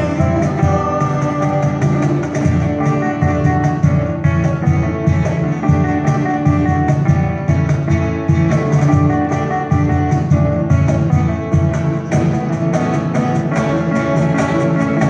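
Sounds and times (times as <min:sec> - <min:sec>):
cajon beat: 0:00.0 - 0:15.0
guitars strumming: 0:00.0 - 0:15.0.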